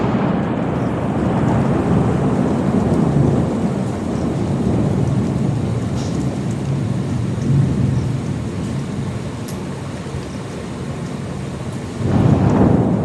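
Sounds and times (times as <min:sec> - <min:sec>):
rain falling: 0:00.0 - 0:13.0
thunder rumbling: 0:00.0 - 0:13.0.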